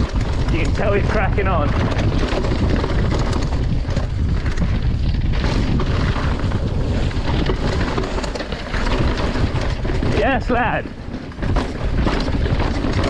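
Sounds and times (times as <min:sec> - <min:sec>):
bike knocking and rattling: 0:00.0 - 0:13.0
tyres rumbling on stones: 0:00.0 - 0:13.0
wind buffeting microphone: 0:00.0 - 0:13.0.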